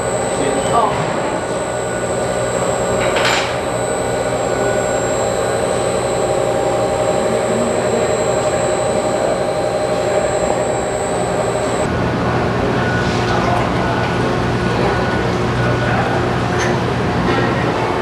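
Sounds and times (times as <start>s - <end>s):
machine hum with high whine: 0.0s - 18.0s.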